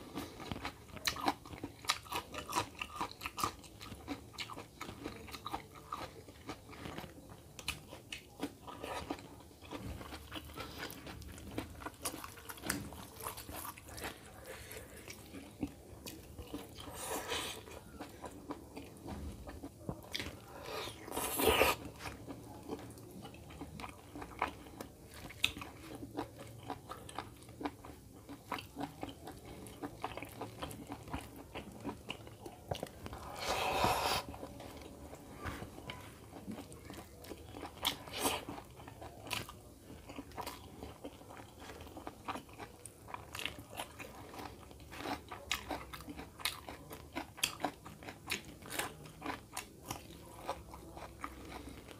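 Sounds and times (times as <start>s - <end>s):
person chewing food: 0.0s - 51.9s.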